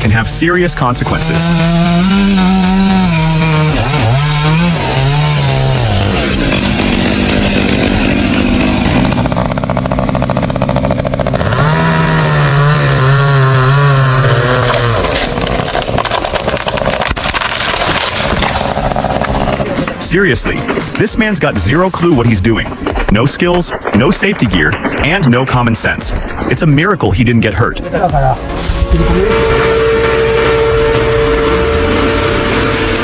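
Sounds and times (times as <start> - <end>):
chainsaw engine revving: 1.0 - 25.3, 28.7 - 33.0.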